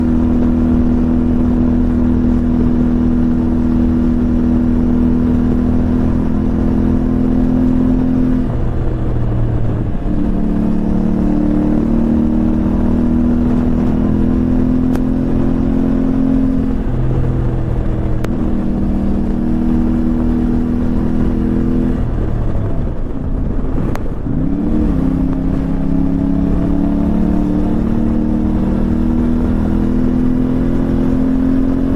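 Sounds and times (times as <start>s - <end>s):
motorcycle engine cruising: 0.0s - 31.9s
wind and road noise: 0.0s - 31.9s.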